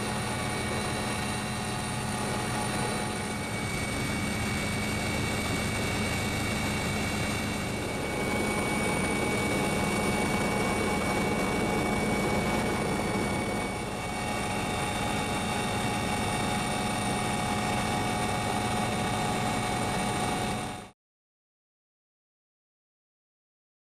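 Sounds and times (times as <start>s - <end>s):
high-pitched whines: 0.0s - 20.9s
helicopter engine and rotor noise: 0.0s - 21.0s.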